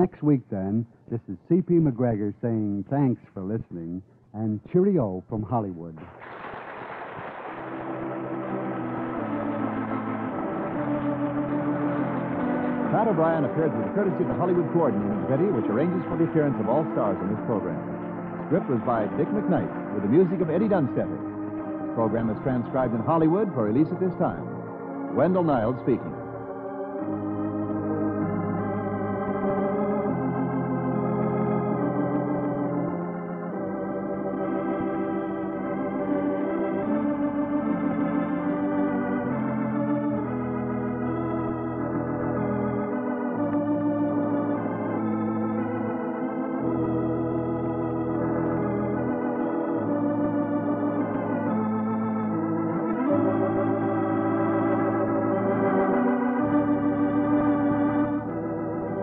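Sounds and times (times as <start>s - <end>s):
organ playing sustained chords: 0.0s - 59.0s.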